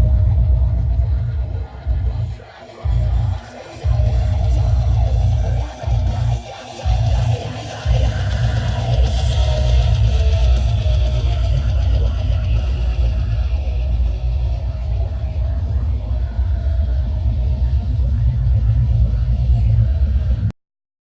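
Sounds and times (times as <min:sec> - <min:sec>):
bass-heavy rock music: 0:00.0 - 0:20.5.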